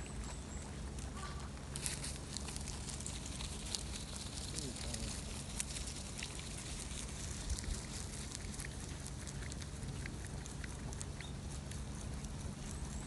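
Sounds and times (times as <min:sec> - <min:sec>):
rabbit chewing a leaf: 0:00.0 - 0:13.0
steady low hum: 0:00.0 - 0:13.0.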